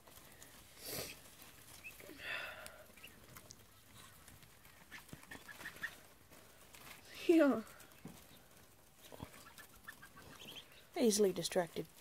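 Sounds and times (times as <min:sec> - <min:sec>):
ducklings peeping: 0:00.1 - 0:07.0, 0:07.6 - 0:11.4.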